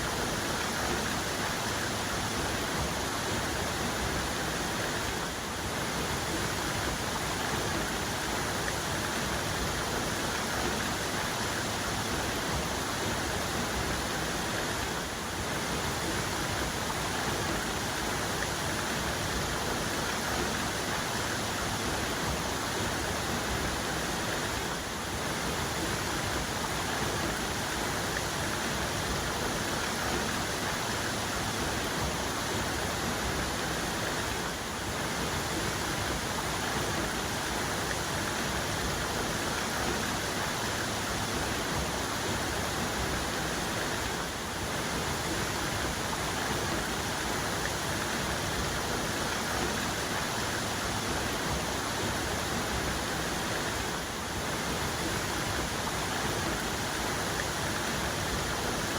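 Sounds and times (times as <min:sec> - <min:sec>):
waterfall: 0:00.0 - 0:58.9.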